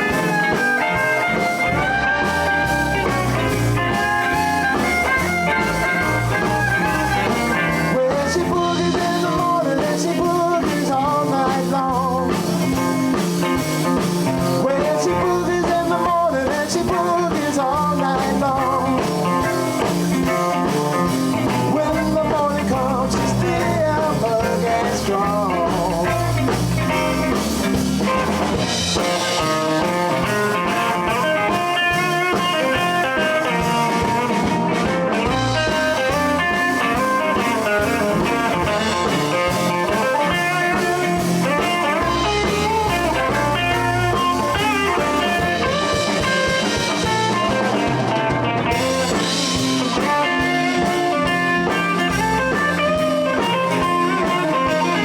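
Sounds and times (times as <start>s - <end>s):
blues band playing: 0.0s - 55.0s
lead guitar bending line: 0.0s - 55.0s.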